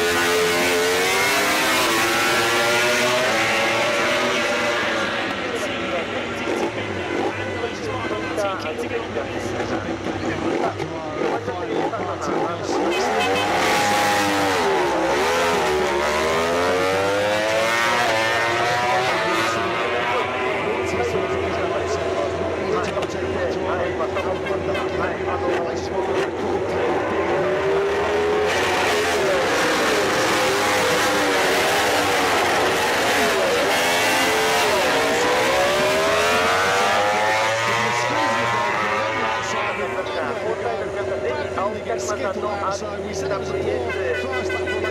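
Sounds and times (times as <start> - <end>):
racing motorcycles at high revs: 0.0 - 43.6.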